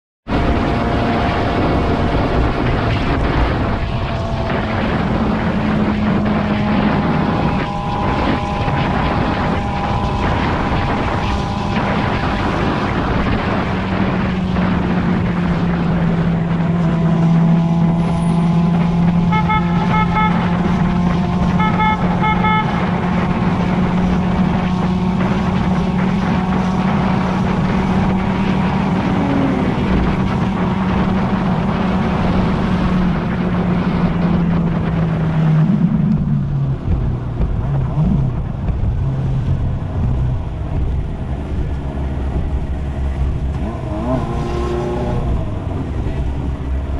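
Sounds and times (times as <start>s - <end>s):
motorcycle engine running: 0.2s - 46.9s
wind rush: 0.2s - 46.9s.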